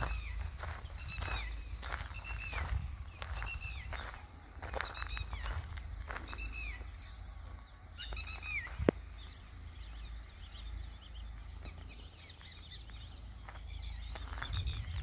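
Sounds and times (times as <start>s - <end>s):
faint high bird chirps: 0.0s - 7.2s, 7.9s - 15.0s
steady low rumble: 0.0s - 15.0s.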